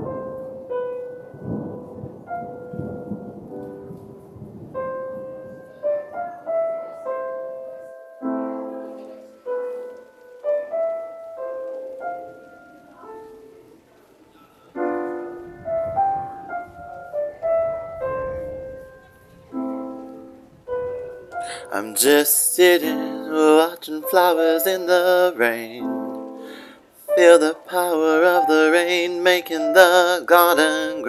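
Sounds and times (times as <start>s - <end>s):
slow piano melody: 0.0s - 31.0s.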